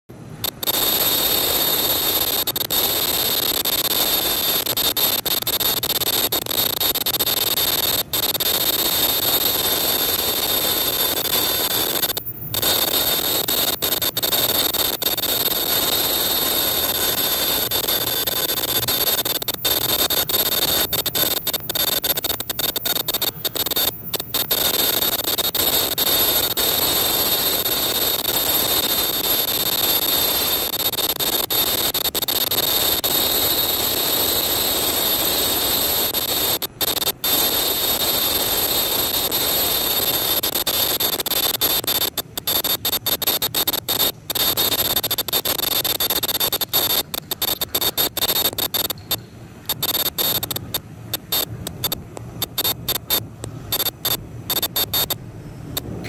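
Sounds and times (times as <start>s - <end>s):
machine whirring and hissing: 0.1s - 56.0s
high-pitched machine whine: 0.4s - 56.0s.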